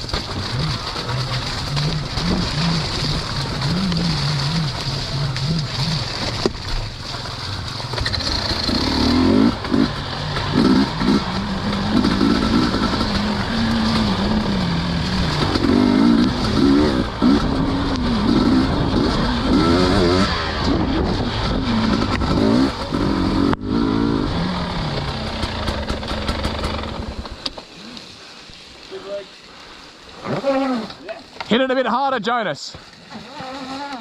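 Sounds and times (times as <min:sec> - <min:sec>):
dirt bike engines revving: 0:00.0 - 0:28.1.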